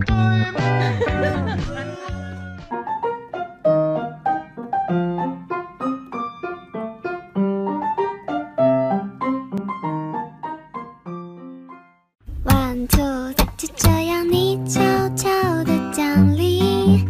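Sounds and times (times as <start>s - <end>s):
lively piano music: 0.5s - 17.0s.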